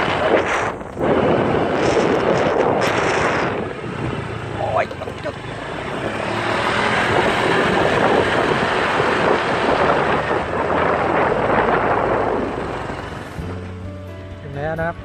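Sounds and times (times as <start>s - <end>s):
scooter road noise: 0.0s - 15.0s
wind buffeting microphone: 0.0s - 15.0s.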